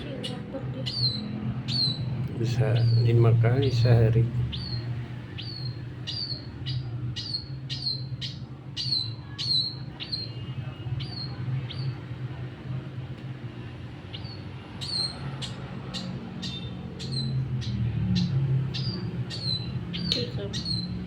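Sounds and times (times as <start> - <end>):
bird chirping: 0.0 - 12.2, 13.9 - 21.0
steady low hum: 0.0 - 21.0.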